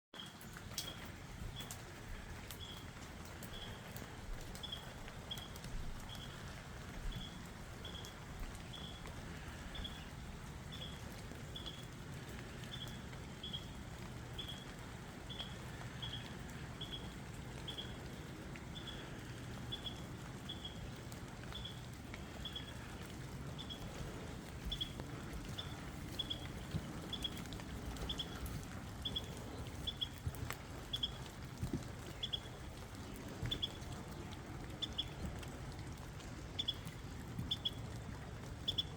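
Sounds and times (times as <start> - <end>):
light rain patter: 0.1 - 38.9
water drips: 0.2 - 38.9.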